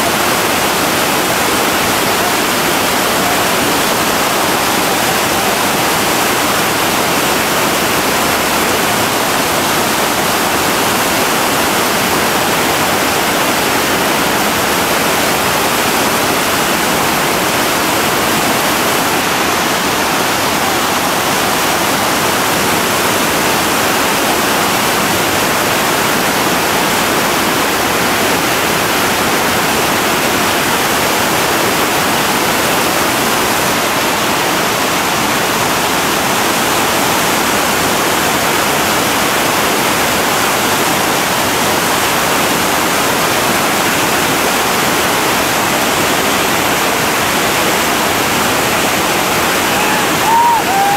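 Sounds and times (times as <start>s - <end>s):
whitewater rapid rushing: 0.0s - 50.9s.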